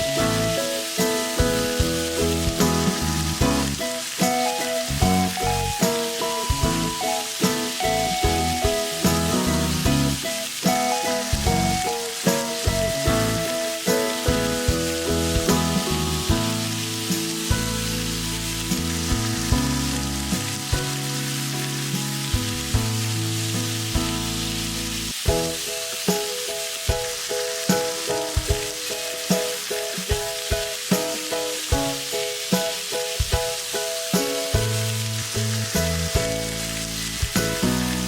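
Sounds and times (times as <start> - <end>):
background music: 0.0 - 38.0
food sizzling in a pan: 0.0 - 38.0.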